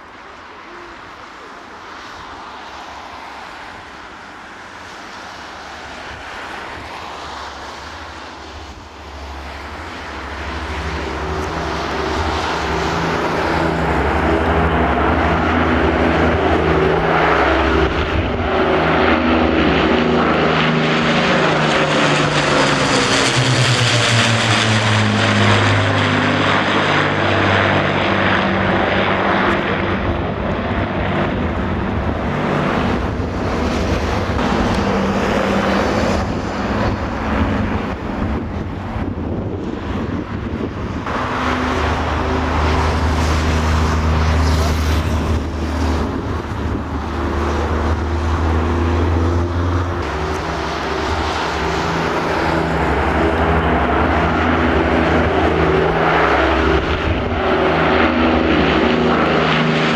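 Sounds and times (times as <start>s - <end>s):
piston engine aircraft droning: 0.0s - 59.9s.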